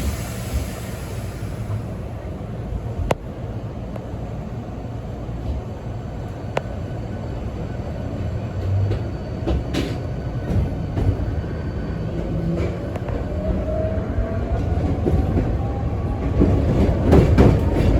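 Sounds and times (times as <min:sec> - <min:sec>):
train low rumble: 0:00.0 - 0:17.9.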